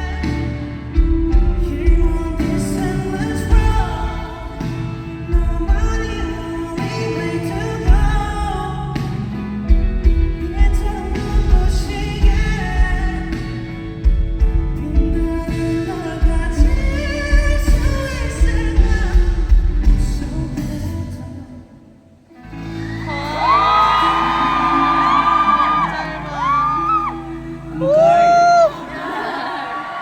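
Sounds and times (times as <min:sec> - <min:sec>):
live pop-rock song: 0:00.0 - 0:30.0
person singing: 0:00.0 - 0:30.0.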